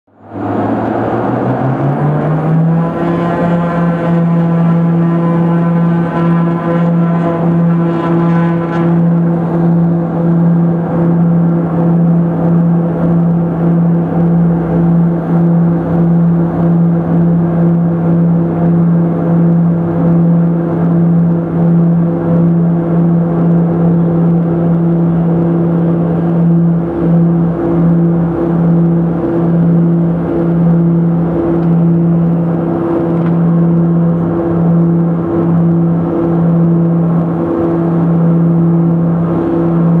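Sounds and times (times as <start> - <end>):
turboprop engines droning: 0.1 - 40.0.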